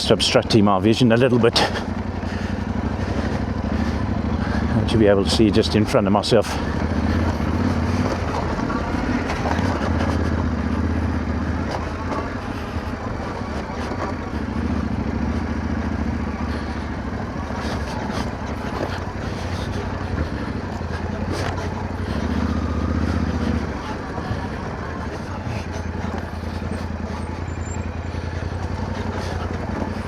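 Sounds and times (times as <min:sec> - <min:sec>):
motorcycle engine running at low revs: 0:00.0 - 0:30.0.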